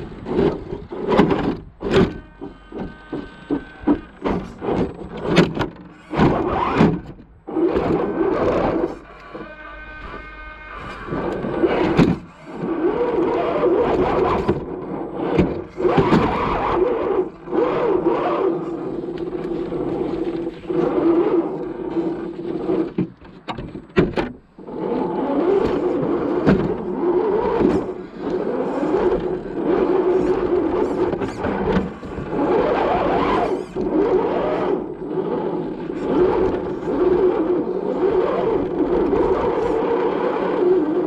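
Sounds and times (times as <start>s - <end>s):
electric motor whining: 0.0s - 22.9s, 24.6s - 41.0s
scraping over ground: 0.0s - 41.0s.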